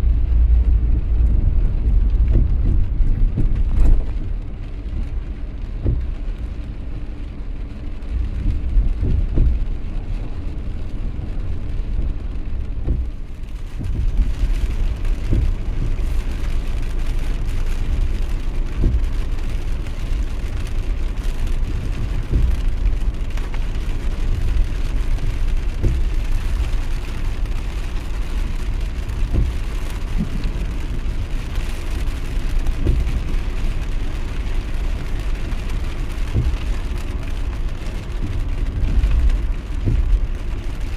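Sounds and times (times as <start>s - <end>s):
rain falling: 0.0s - 40.9s
steady low rumble: 0.0s - 40.9s.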